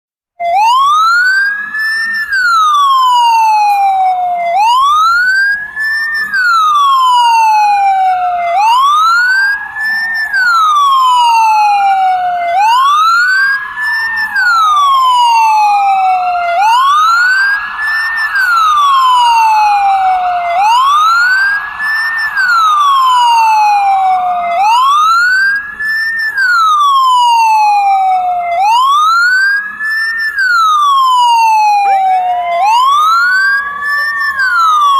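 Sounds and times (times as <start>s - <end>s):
ambulance siren wailing: 0.4s - 34.9s
second siren wailing faintly: 0.4s - 34.9s.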